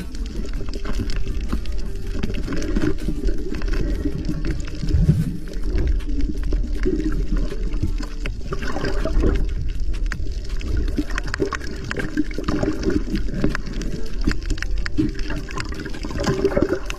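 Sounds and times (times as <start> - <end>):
sharp underwater clicks and crackles: 0.0 - 16.9
underwater rumble of moving water: 0.0 - 16.9.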